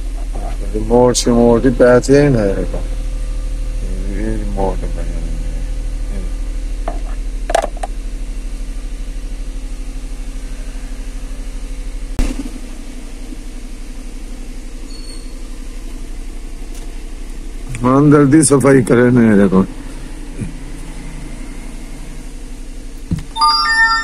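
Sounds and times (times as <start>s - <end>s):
car engine idling: 0.0s - 23.4s.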